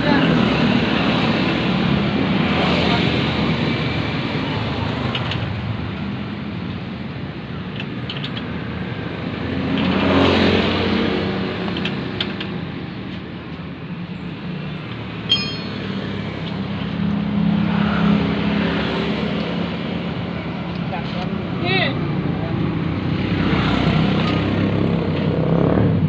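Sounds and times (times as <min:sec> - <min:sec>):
vehicle engines passing: 0:00.0 - 0:26.0.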